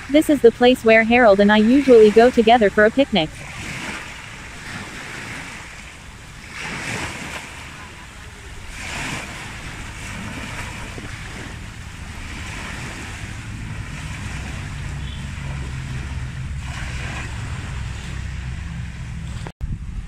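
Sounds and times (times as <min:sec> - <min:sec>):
small waves washing onto shore: 0:00.0 - 0:19.5
wind rumble on microphone: 0:03.2 - 0:20.0.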